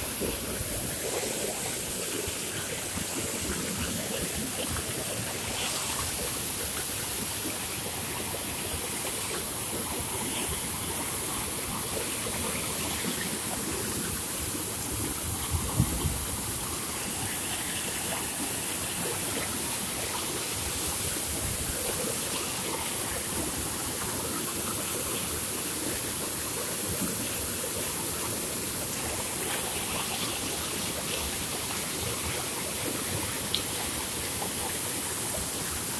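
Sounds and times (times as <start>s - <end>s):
water gushing into a channel: 0.0s - 35.9s.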